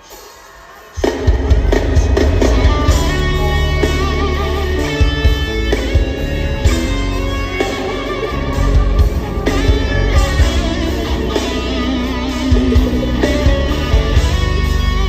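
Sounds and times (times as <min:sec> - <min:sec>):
live band with electric guitar: 0:00.0 - 0:15.0.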